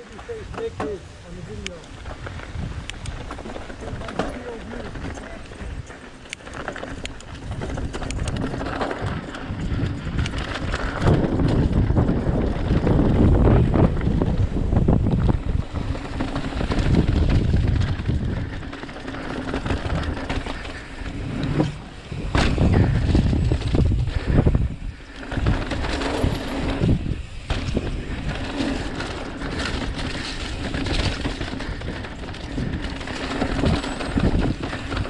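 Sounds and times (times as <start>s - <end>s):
bike rattling clicks: 0.0s - 35.0s
bike tyre noise on dirt: 0.0s - 35.0s
wind rushing over microphone: 0.0s - 35.0s.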